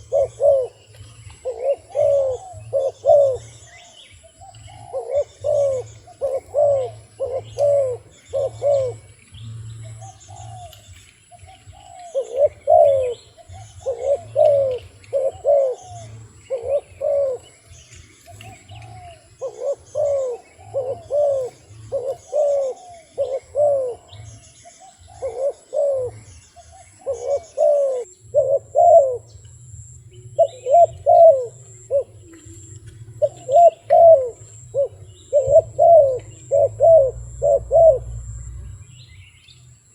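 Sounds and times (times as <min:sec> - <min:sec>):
dove cooing: 0:00.0 - 0:39.5.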